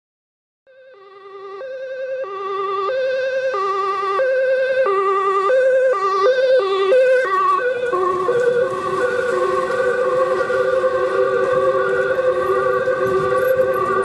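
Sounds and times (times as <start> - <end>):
ambulance two-tone siren: 0.7 - 14.0.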